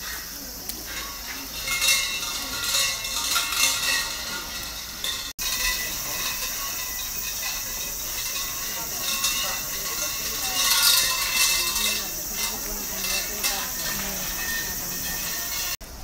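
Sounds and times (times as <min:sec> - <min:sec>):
small metal bells jingling: 0:00.0 - 0:15.8.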